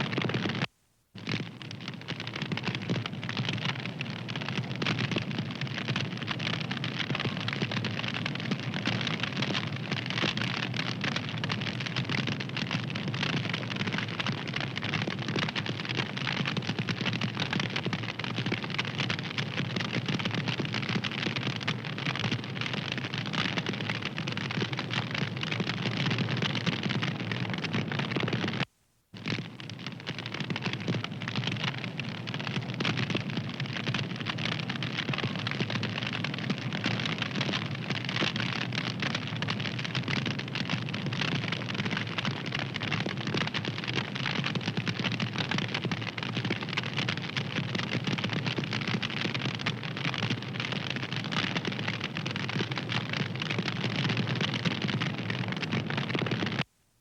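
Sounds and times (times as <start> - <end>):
wood fire crackling: 0.0 - 56.7.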